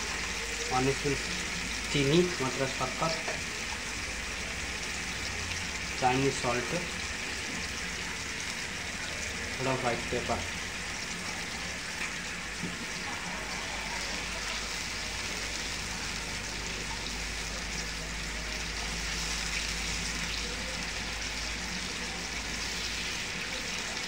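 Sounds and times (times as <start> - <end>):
sauce bubbling in frying pan: 0.0 - 24.0.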